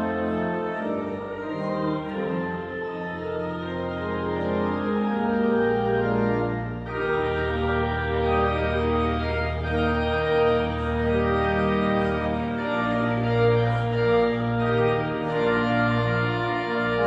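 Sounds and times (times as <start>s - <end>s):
church organ chords: 0.0s - 17.0s.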